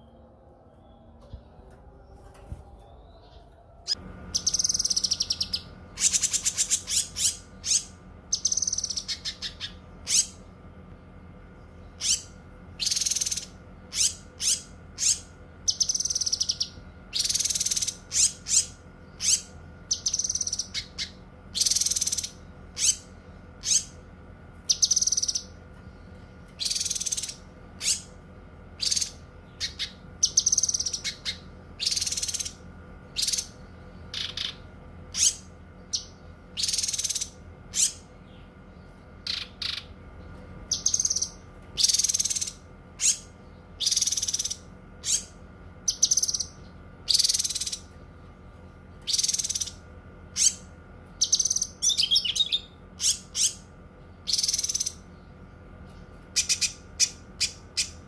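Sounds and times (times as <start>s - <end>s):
bird singing chirps and trills: 0.0s - 58.0s
faint steady hum: 0.0s - 58.0s.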